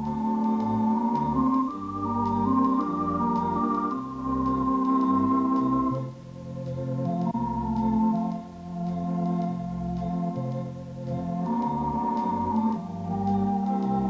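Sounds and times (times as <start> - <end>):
bass line: 0.0 - 14.0
held keyboard chords: 0.0 - 14.0.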